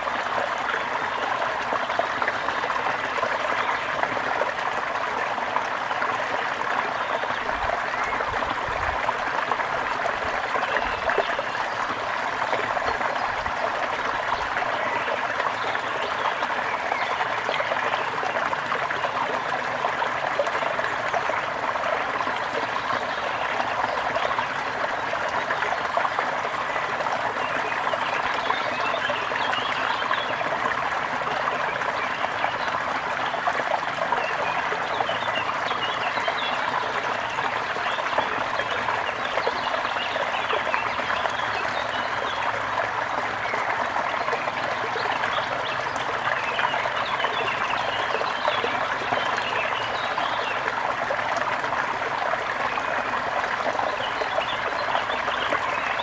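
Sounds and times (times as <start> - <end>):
brook water flowing: 0.0 - 56.0.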